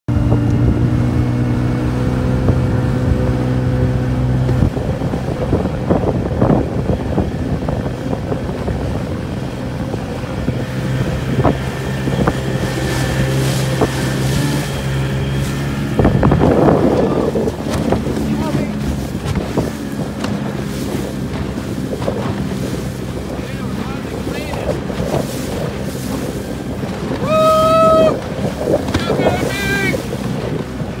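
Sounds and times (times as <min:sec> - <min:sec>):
hull slapping choppy water: 0:00.1 - 0:31.0
outboard motor running: 0:00.1 - 0:31.0
wind on microphone: 0:00.1 - 0:31.0.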